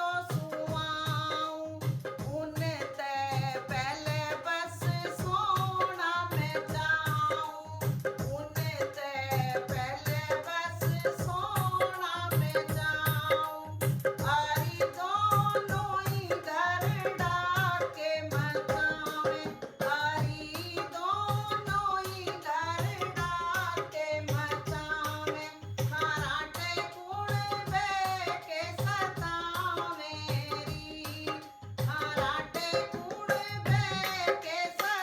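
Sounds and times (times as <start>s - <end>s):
hand drum beat: 0.0s - 35.0s
woman singing folk song: 0.0s - 35.0s.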